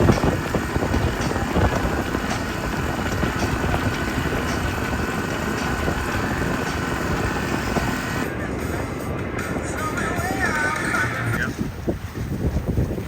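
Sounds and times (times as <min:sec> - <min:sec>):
boat engine drone: 0:00.0 - 0:13.0
water noise: 0:00.0 - 0:13.0
wind noise: 0:00.0 - 0:13.0.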